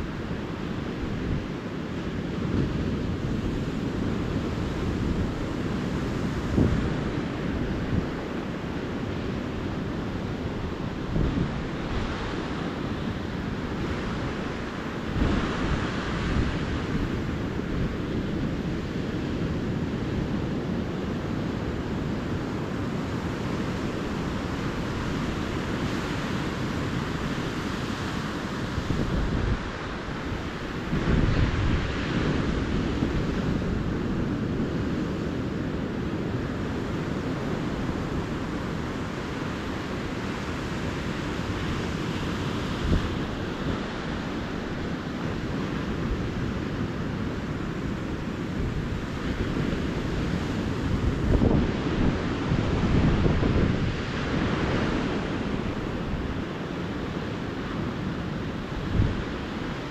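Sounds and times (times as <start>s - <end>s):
ocean surf on beach: 0.0s - 59.9s
wind rumbling on microphone: 0.0s - 59.9s.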